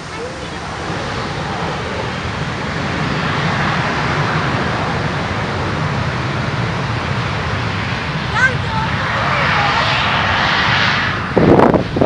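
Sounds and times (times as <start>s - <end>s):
jet engines at high thrust: 0.0s - 12.0s.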